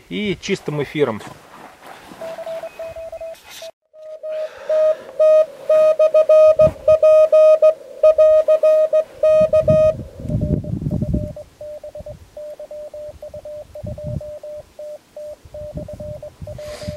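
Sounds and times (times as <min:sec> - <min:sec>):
morse code beeps: 0:02.2 - 0:03.4, 0:04.0 - 0:16.9.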